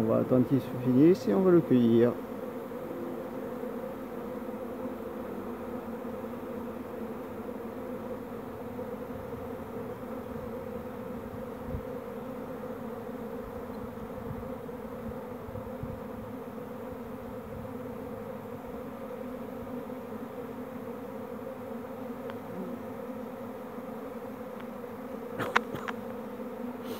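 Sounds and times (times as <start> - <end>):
hum of bee swarm: 0.0 - 26.9.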